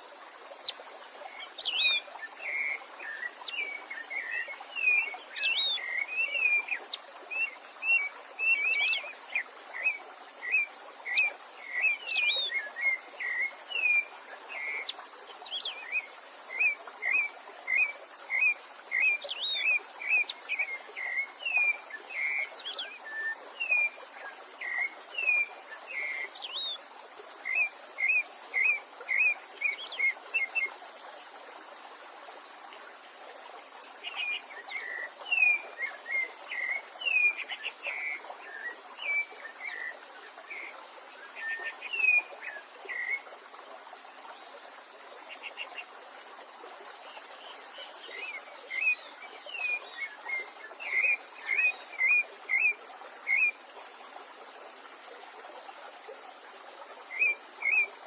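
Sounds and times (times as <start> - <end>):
songbird chirping: 0.0 - 31.9, 32.7 - 53.7, 57.0 - 58.0.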